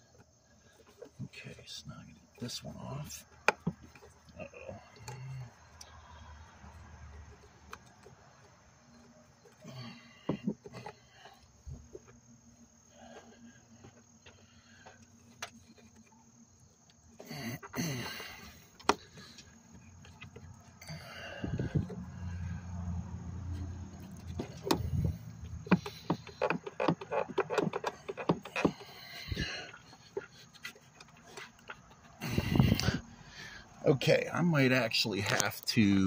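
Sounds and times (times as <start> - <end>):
faint insect drone: 0.0 - 36.0.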